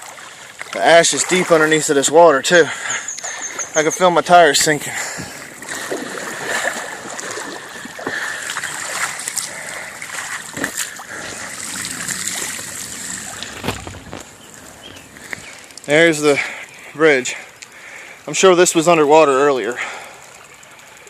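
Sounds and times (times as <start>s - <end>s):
bike tyres through water: 0.0s - 21.0s
water splashing: 0.0s - 21.0s.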